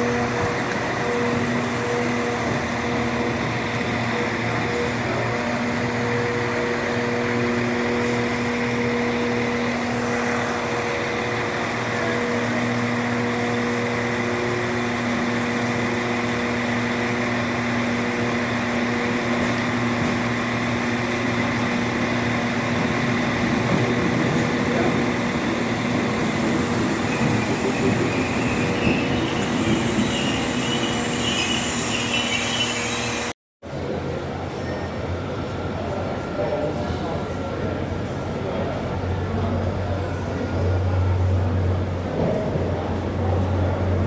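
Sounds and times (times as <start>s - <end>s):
train engine humming: 0.0s - 44.0s.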